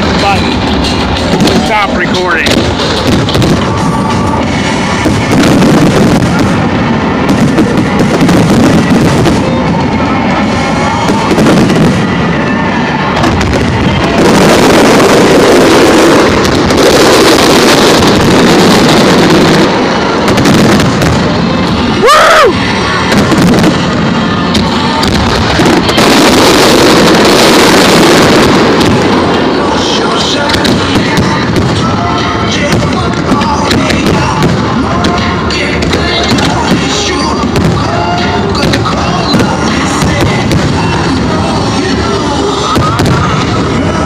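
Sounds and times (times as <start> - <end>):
fireworks booming and crackling: 0.0 - 44.0
music: 0.0 - 44.0.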